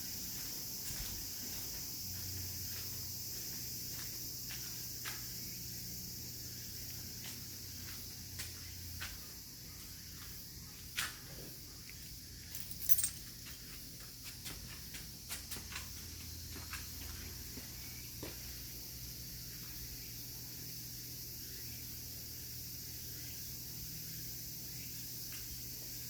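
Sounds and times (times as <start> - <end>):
high-pitched insect chorus: 0.0 - 14.4, 15.0 - 26.0.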